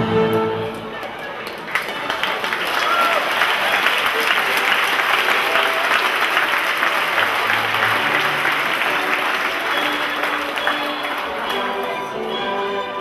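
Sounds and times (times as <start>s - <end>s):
audience applauding: 0.6s - 13.0s.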